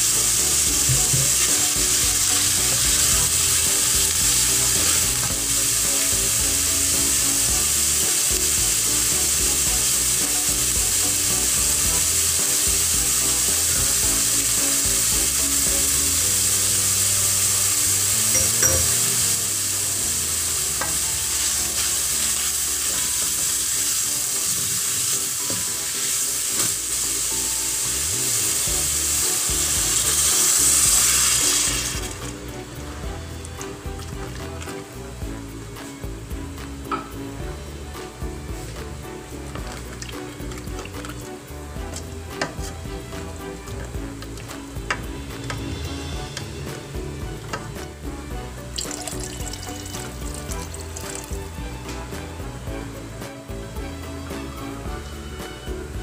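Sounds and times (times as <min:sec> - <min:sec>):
onion and garlic sizzling in butter: 0:00.0 - 0:56.0.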